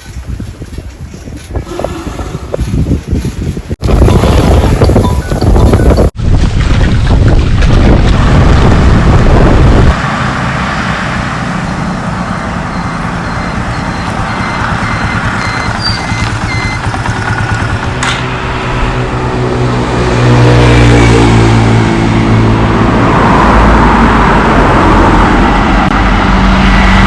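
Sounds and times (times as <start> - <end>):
road and engine noise: 0.0 - 27.0.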